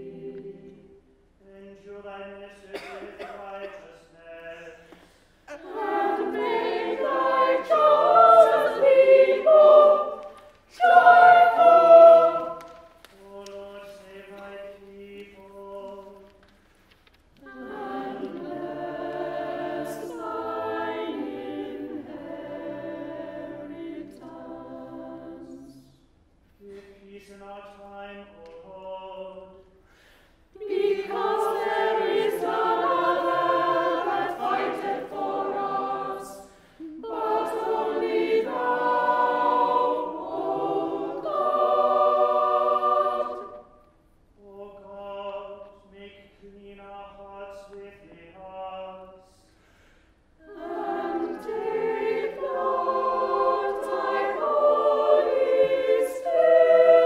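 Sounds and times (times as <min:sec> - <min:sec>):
church choir singing: 0:00.0 - 0:16.5, 0:17.4 - 0:57.0.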